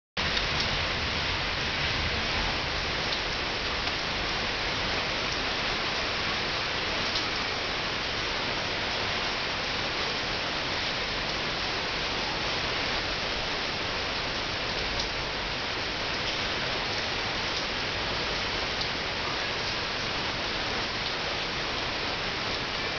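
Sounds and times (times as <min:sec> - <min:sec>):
rain on leaves and paving: 0:00.2 - 0:22.9.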